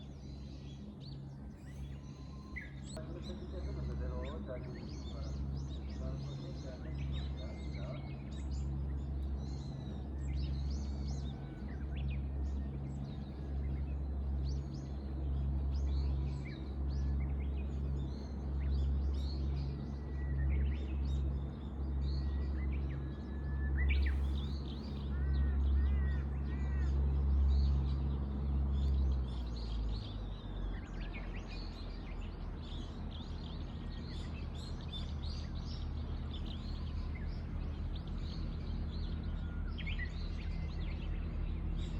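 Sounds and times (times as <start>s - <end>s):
birds chirping and calling: 0.0s - 41.9s
low steady drone: 0.0s - 41.9s.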